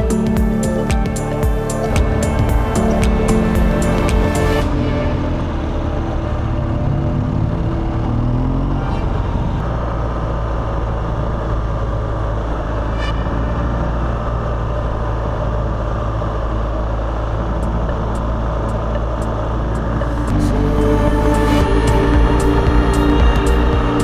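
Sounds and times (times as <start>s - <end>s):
motorcycle engine running: 0.0s - 24.0s
wind and tyre noise: 0.0s - 24.0s.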